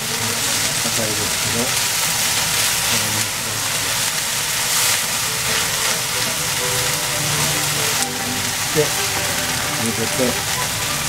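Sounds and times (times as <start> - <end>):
chopsticks stirring: 0.0 - 11.0
food sizzling in a wok: 0.0 - 11.0.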